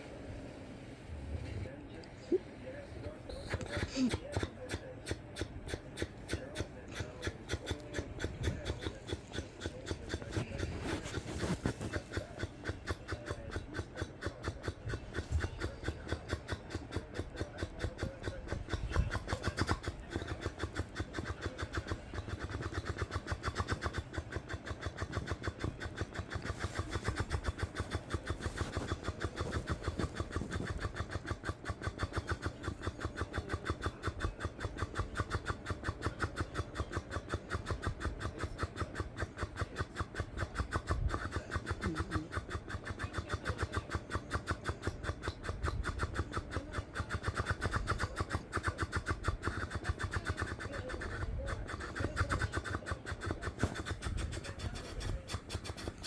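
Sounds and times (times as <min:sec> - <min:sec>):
air fluttering lips: 0:00.0 - 0:56.0.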